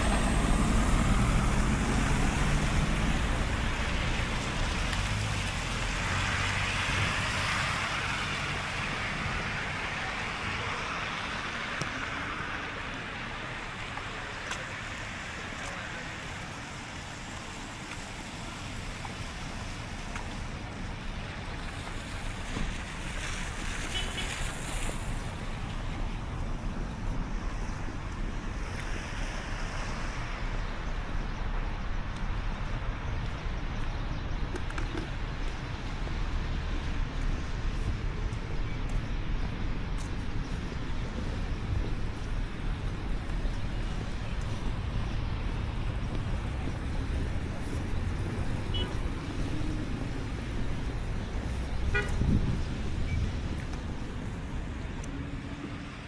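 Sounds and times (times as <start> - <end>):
wind rumble on microphone: 0.0 - 12.2, 18.4 - 56.0
tyre hiss of passing vehicles: 0.0 - 33.1, 35.2 - 56.0.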